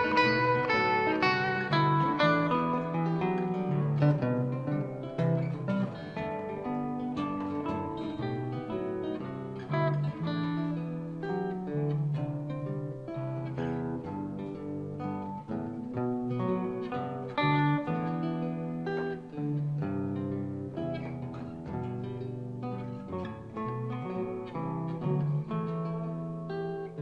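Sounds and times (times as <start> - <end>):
instrumental guitar band: 0.0 - 27.0.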